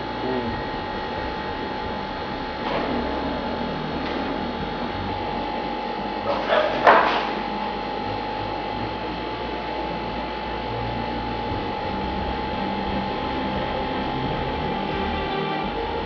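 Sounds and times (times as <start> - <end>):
high-pitched whine: 0.0 - 16.0
mechanical hum: 0.0 - 16.0.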